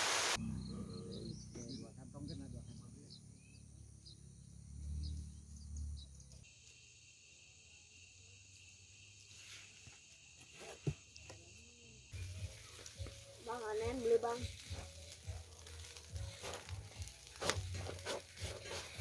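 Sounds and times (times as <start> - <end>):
crickets chirping: 0.4 - 19.0.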